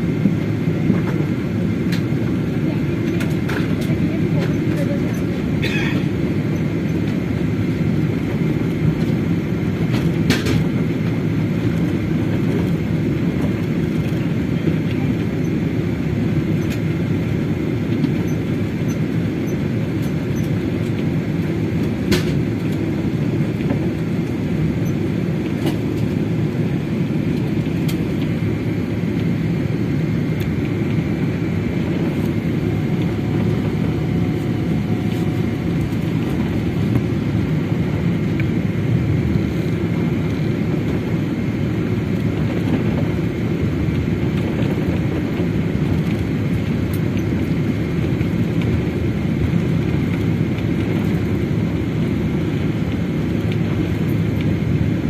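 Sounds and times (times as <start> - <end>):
airliner cabin rumble: 0.0 - 55.0.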